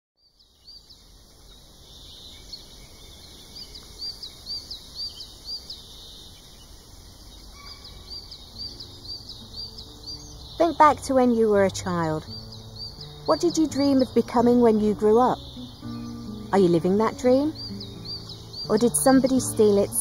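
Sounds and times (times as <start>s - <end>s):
small bird chirping: 0.2s - 20.0s
background hiss: 0.3s - 20.0s.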